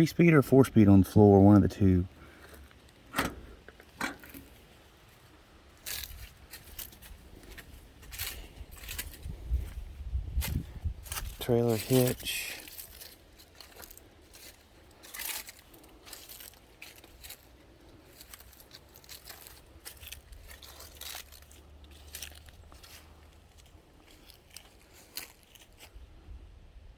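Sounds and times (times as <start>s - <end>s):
footsteps crunching on dry ground: 0.2s - 26.2s.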